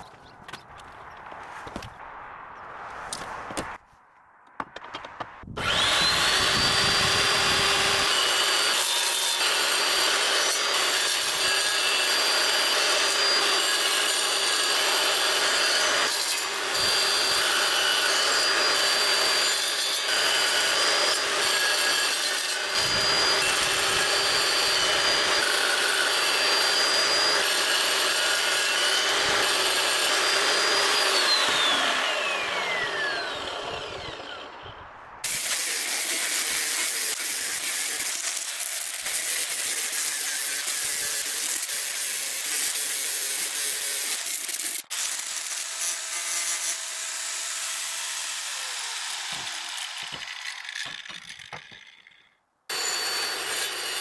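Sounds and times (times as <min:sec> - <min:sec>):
chop saw motor whine: 0:04.8 - 0:40.8, 0:43.6 - 0:54.0
saw cutting steel: 0:05.0 - 0:54.0.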